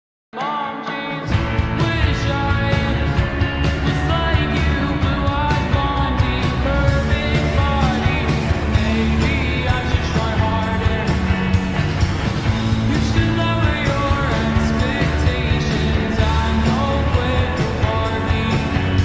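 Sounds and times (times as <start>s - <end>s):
rock music with singing: 0.3s - 19.0s.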